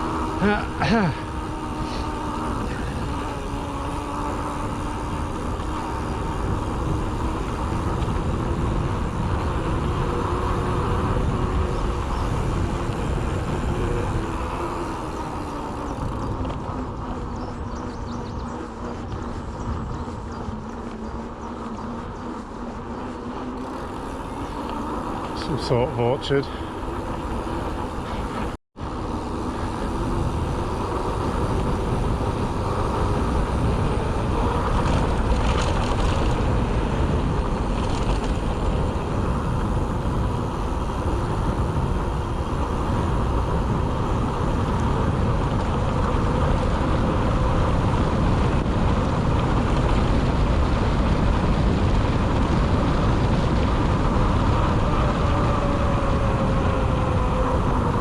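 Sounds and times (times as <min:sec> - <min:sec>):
bike tyre rumble on road: 0:00.0 - 0:58.0
wind on microphone: 0:00.0 - 0:58.0.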